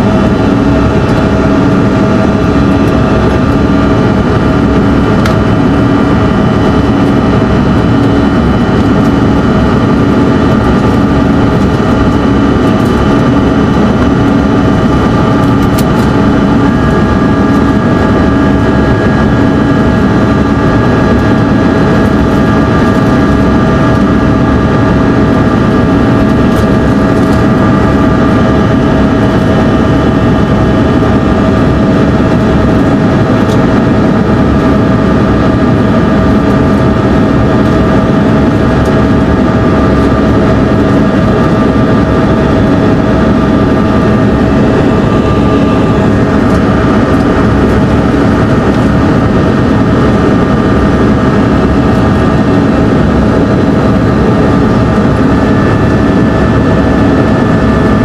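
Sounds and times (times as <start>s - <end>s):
jet engine hum: 0.0s - 58.0s
steady whining tones: 0.0s - 58.0s.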